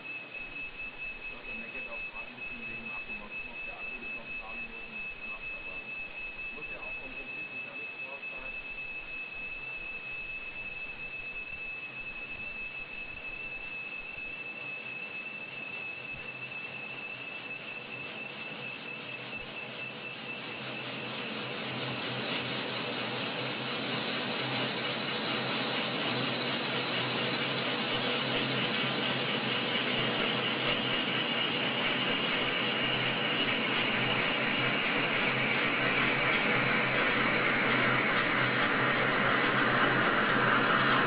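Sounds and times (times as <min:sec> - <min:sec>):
lathe high-pitched whine: 0:00.0 - 0:41.0.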